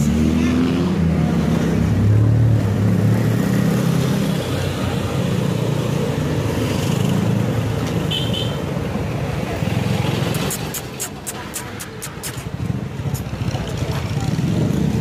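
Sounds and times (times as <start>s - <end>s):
low traffic rumble: 0.0s - 15.0s
motorcycle engines running: 0.0s - 15.0s.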